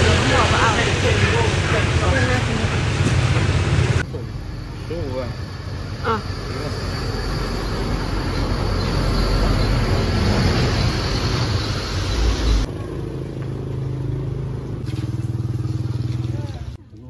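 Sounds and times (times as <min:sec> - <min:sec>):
loud rough truck engine: 0:00.0 - 0:16.8.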